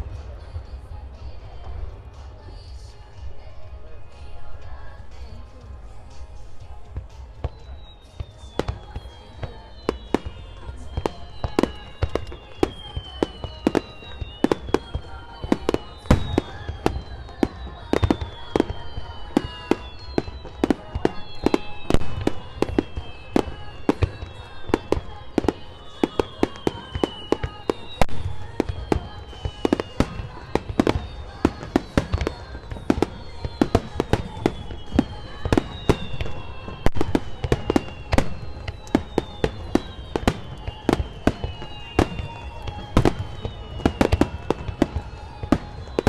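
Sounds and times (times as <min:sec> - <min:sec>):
fireworks bursting: 0:00.0 - 0:46.0.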